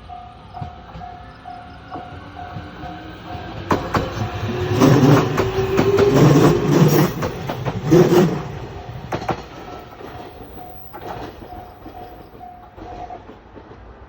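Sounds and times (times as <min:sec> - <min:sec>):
level-crossing warning bell: 0:00.0 - 0:08.0, 0:09.6 - 0:13.3
train wheels clacking over rail joints: 0:00.5 - 0:14.0.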